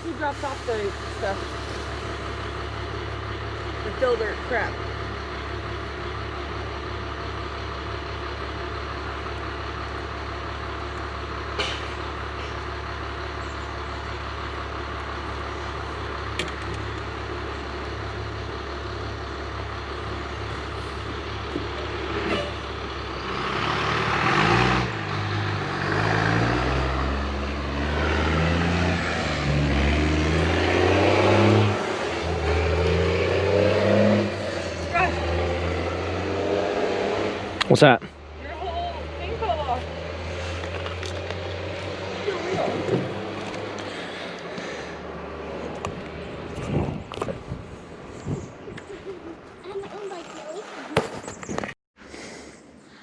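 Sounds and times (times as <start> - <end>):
truck engine: 0.0 - 52.9
road noise: 0.0 - 53.0.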